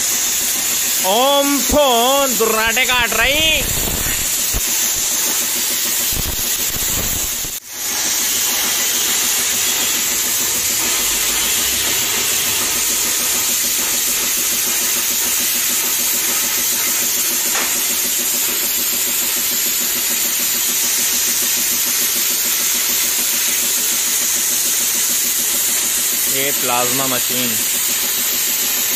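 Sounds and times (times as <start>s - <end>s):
plasma cutter hissing: 0.0s - 28.9s.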